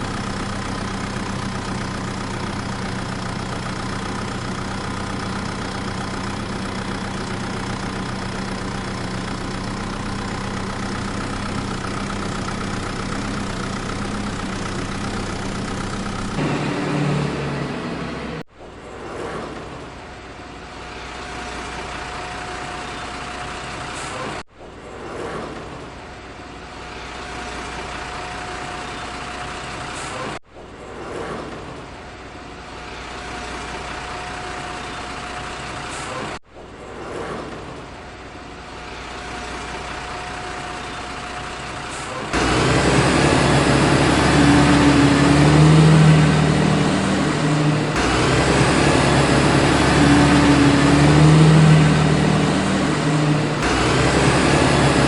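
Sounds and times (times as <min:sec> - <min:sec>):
truck engine: 0:00.0 - 0:55.0
vehicle rising and falling tones: 0:00.0 - 0:55.0.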